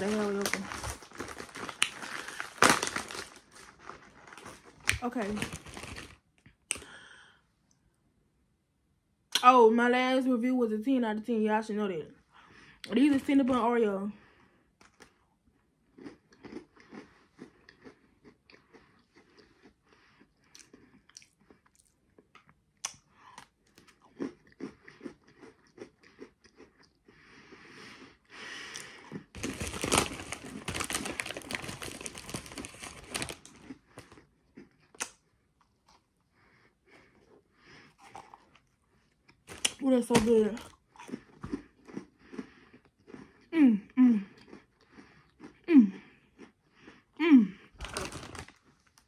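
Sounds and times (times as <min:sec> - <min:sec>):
crunching and chewing cookie: 0:00.0 - 0:06.9, 0:14.2 - 0:49.0.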